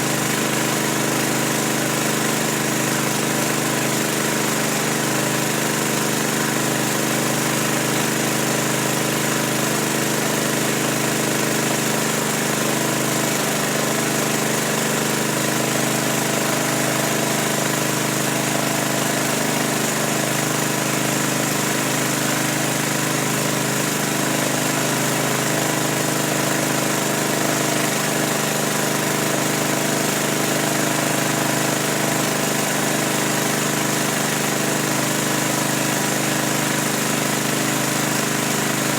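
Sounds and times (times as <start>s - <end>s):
motor humming steadily: 0.0s - 38.9s.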